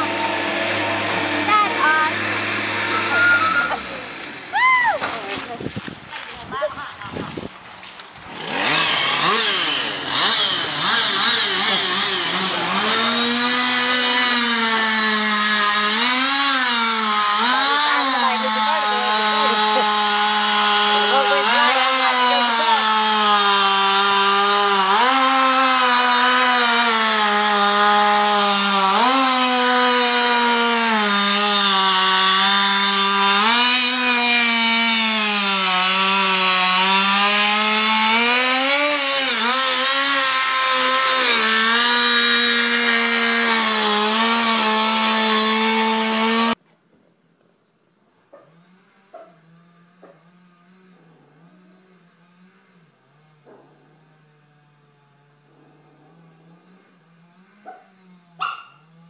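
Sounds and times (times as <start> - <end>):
chainsaw cutting wood: 0.0 - 46.6, 48.1 - 59.0.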